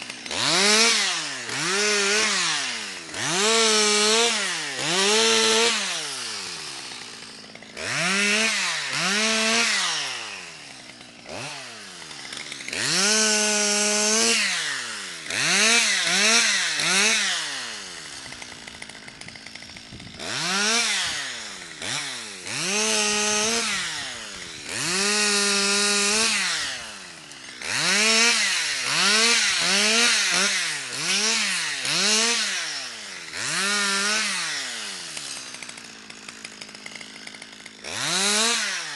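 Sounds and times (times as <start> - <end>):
chainsaw revving in bursts: 0.0 - 38.9.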